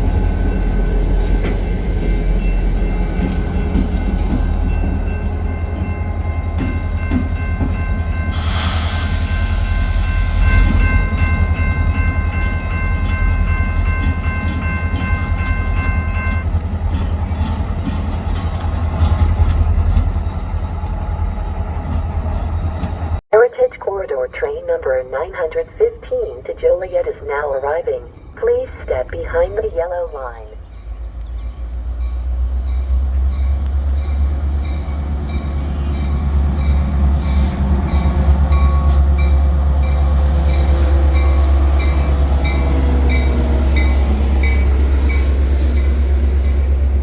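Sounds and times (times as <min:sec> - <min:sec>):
train rumbling past: 0:00.0 - 0:23.2, 0:30.6 - 0:47.0.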